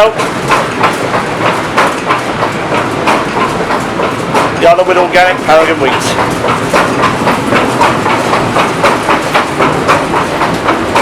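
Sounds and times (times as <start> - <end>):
millstones grinding rumble: 0.0 - 11.0
rapid regular clatter: 0.0 - 11.0.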